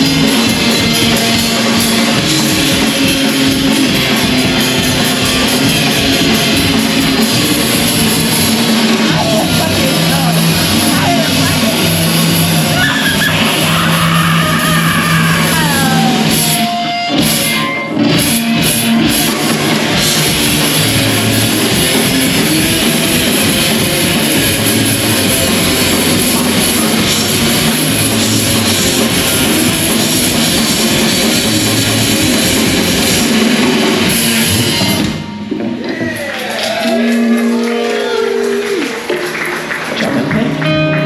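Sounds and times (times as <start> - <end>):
distorted electric guitar: 0.0 - 41.0
drum kit: 0.0 - 41.0
live rock band playing: 0.0 - 41.0.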